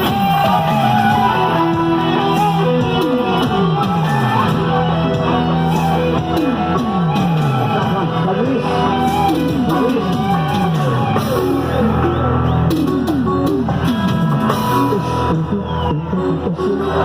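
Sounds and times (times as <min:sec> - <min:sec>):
drum beat: 0:00.0 - 0:15.0
guitar: 0:00.0 - 0:17.0
live band music: 0:00.0 - 0:17.0.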